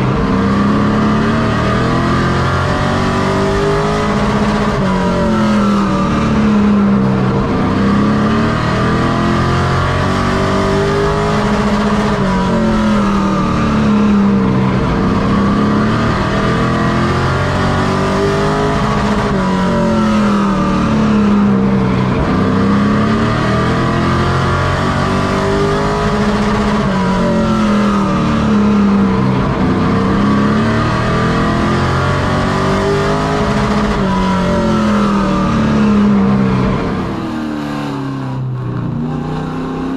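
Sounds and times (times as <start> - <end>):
race truck engine revving: 0.0 - 39.9.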